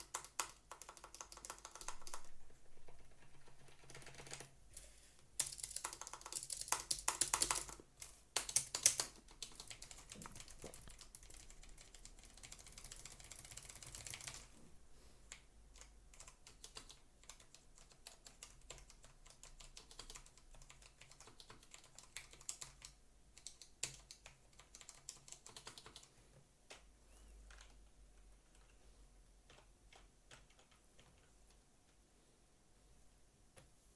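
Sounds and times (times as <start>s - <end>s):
typing on a keyboard: 0.0s - 4.6s, 5.4s - 14.5s, 15.3s - 28.8s, 29.4s - 31.6s.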